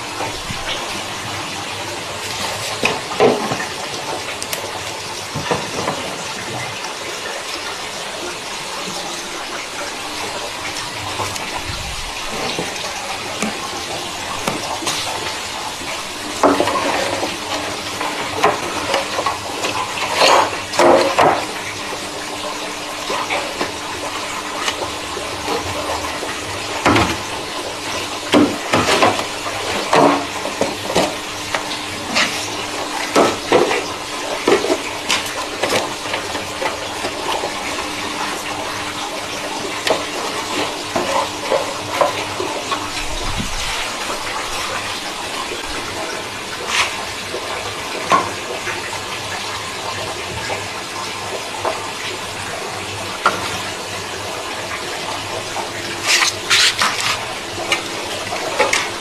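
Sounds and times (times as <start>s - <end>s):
water running: 0.0s - 59.0s.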